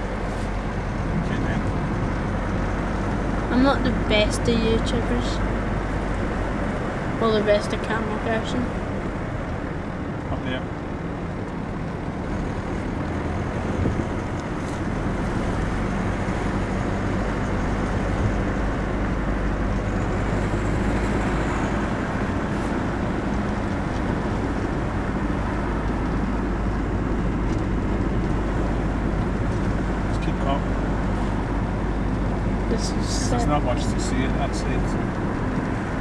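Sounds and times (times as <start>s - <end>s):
car road and engine noise: 0.0s - 36.0s.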